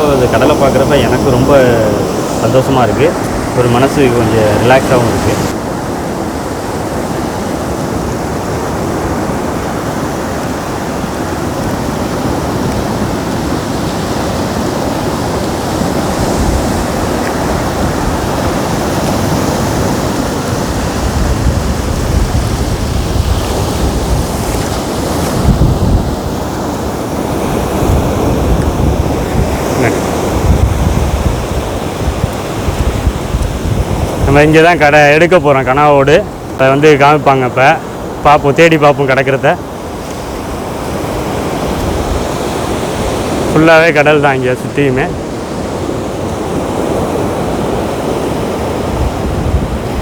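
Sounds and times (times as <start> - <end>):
sea waves breaking: 0.0 - 50.0
wind gusting on microphone: 0.0 - 50.0.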